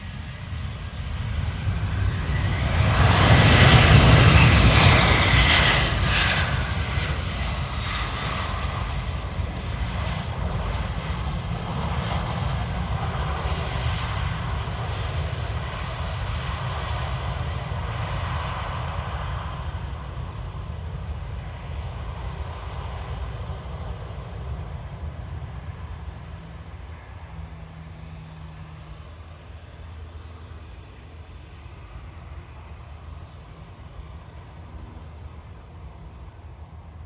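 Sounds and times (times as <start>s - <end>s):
jet engines of landing airliner: 0.0s - 37.0s.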